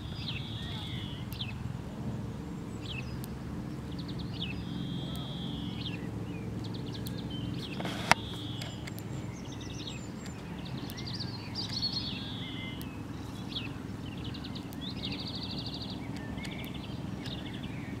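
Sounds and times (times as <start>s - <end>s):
small birds chirping and trilling: 0.0s - 18.0s
steady low hum: 0.0s - 18.0s.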